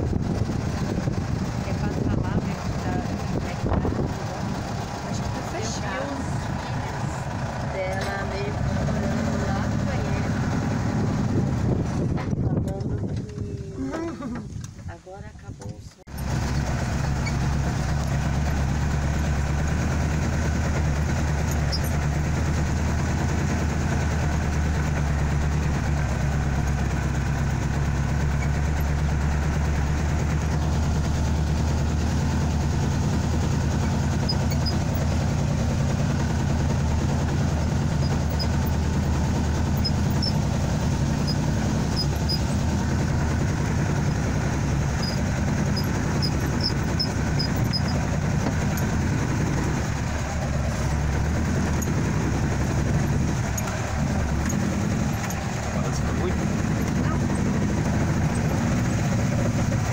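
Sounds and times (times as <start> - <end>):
buggy engine running: 0.0 - 59.9
road and wind noise: 0.0 - 59.9.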